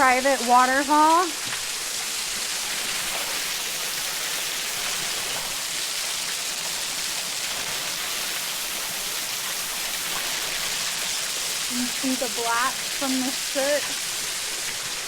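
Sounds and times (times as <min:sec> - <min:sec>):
small waterfall pouring: 0:00.0 - 0:15.0.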